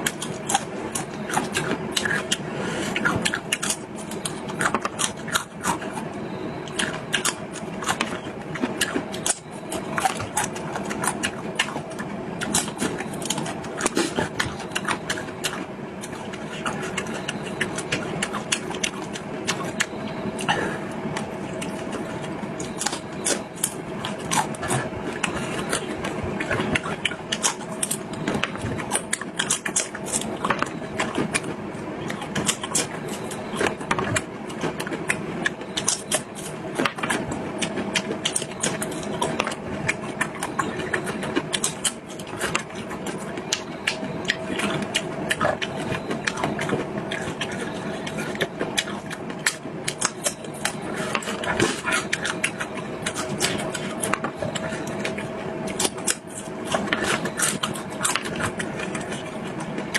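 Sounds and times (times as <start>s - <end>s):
background hum: 0.0s - 59.9s
person chewing food: 0.0s - 59.9s.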